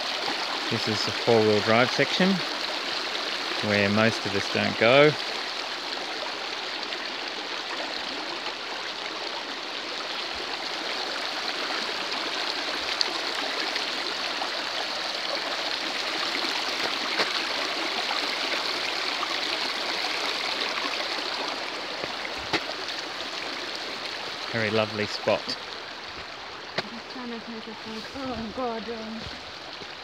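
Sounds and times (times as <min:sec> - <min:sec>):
river babbling over rocks: 0:00.0 - 0:30.0.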